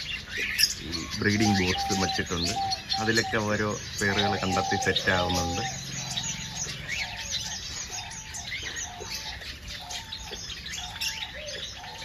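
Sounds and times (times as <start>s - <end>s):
low bird call: 0.0s - 12.0s
small birds chirping: 0.0s - 12.0s.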